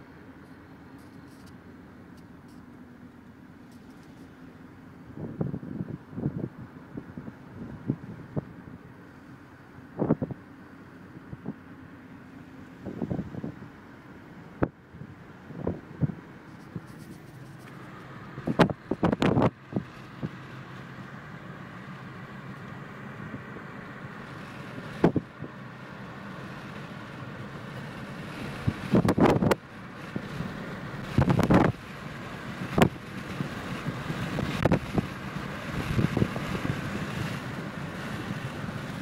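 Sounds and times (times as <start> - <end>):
car road and wind noise: 0.0 - 39.0.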